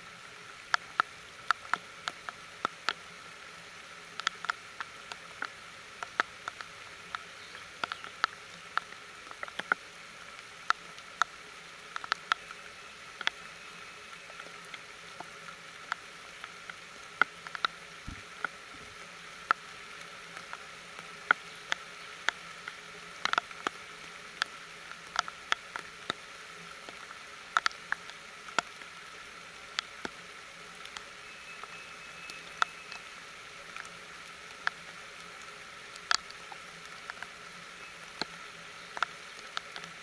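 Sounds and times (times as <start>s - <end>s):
rain drops ticking: 0.0s - 40.0s
rain hiss: 0.0s - 40.0s.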